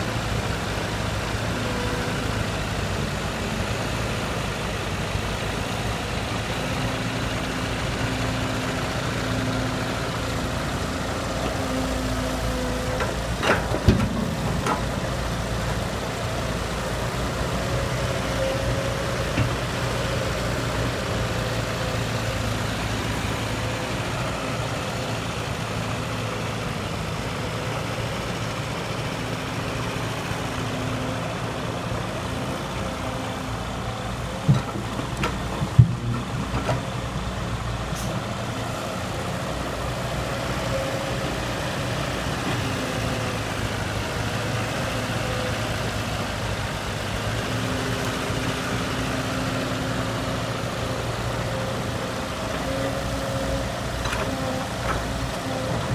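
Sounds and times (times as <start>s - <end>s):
diesel machinery engine running: 0.0s - 55.9s.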